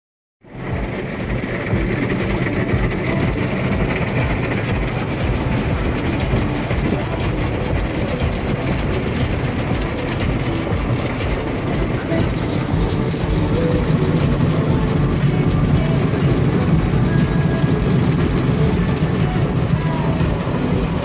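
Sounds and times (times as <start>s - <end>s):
steady low rumble: 0.4s - 21.0s
water spray drumming on windows: 0.7s - 21.0s.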